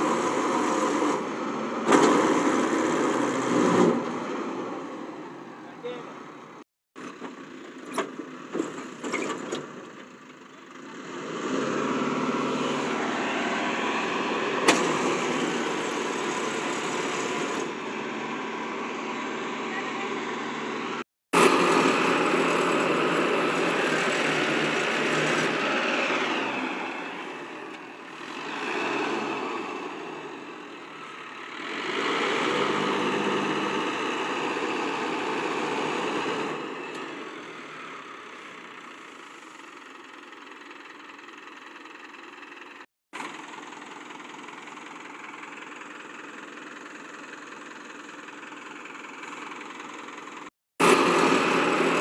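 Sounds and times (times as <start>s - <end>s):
harvester diesel engine running: 5.3s - 52.0s.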